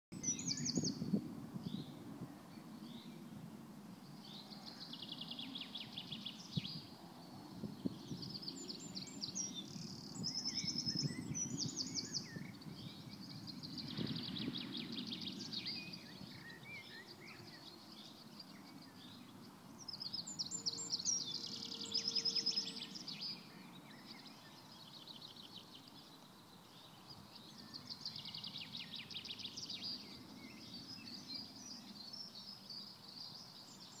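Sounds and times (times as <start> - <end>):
songbirds trilling: 4.0 - 34.0.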